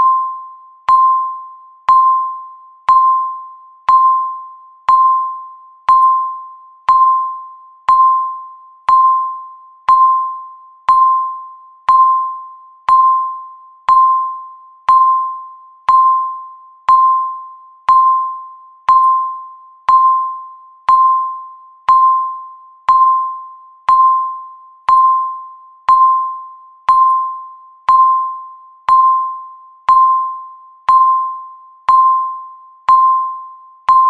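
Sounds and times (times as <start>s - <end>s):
countdown timer beeps: 0.0s - 34.0s.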